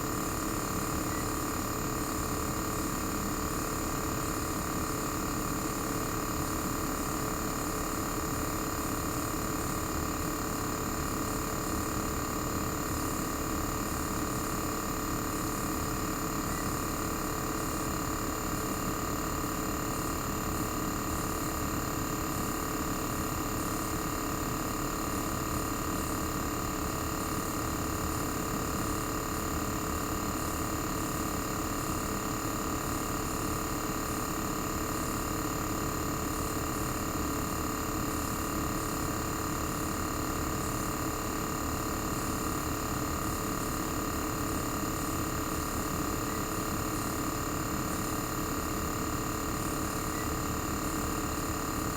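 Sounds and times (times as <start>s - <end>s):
air conditioner compressor humming: 0.0s - 51.9s.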